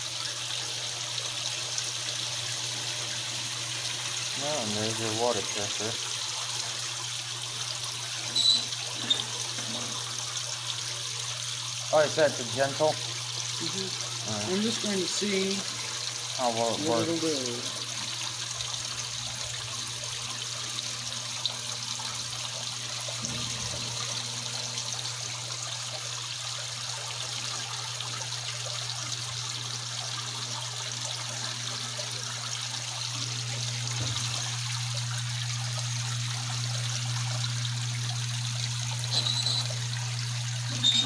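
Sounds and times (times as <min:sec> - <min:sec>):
water rushing into washing machine: 0:00.0 - 0:41.0.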